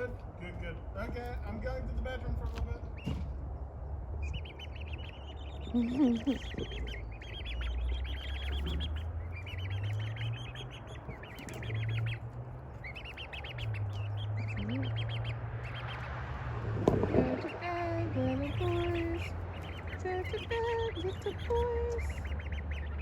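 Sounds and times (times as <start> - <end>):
birds chirping trills: 0.0 - 23.0.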